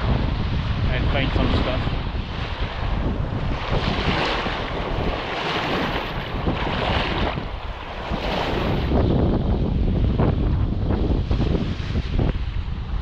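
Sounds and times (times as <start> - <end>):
low wind rumble on microphone: 0.0 - 13.0
waves splashing on shoreline: 0.0 - 13.0
wind buffeting microphone: 0.0 - 13.0.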